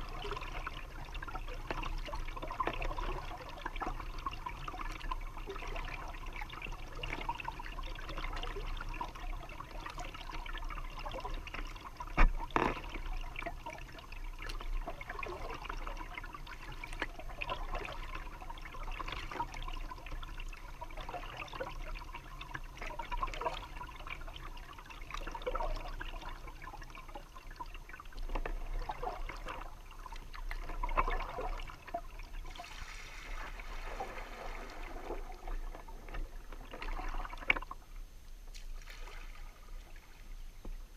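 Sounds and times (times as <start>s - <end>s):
paddle splashes: 0.0s - 26.8s, 27.4s - 37.8s, 38.5s - 40.6s
water trickling and dripping: 0.0s - 37.9s.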